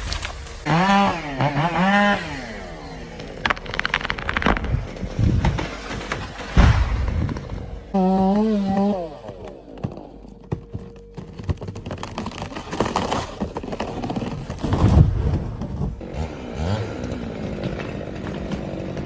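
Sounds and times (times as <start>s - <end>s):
branches crashing: 0.0s - 19.0s
wood cracking: 0.0s - 19.0s.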